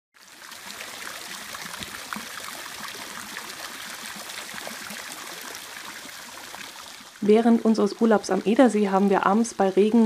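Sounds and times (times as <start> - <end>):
fountain water splashing: 0.2 - 10.0.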